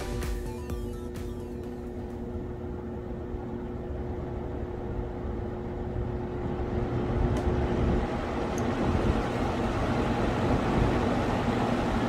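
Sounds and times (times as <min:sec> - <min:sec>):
electric fan running: 0:00.0 - 0:12.0.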